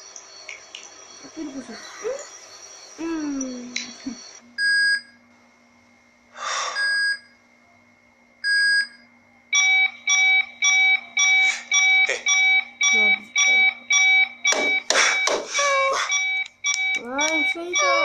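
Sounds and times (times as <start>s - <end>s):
electronic alarm beeping: 0.0s - 5.2s, 6.6s - 7.4s, 8.4s - 18.0s.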